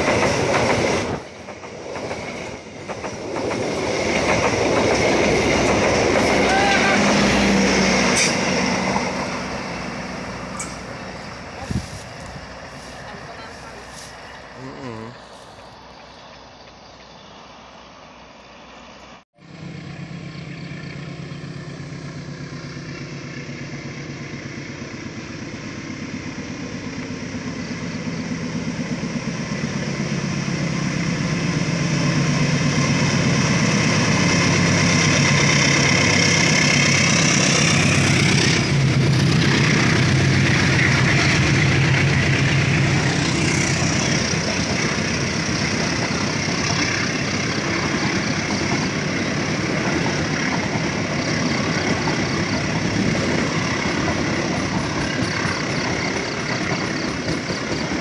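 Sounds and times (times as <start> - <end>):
diesel locomotive engine: 0.0 - 58.0
train coaches rumbling on rails: 0.0 - 58.0.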